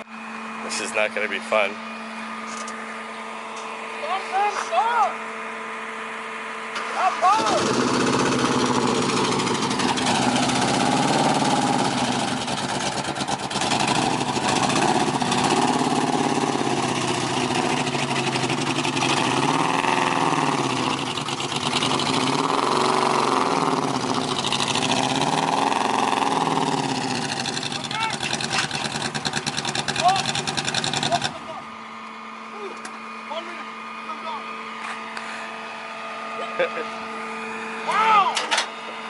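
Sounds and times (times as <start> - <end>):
engine revving: 0.0 - 38.2.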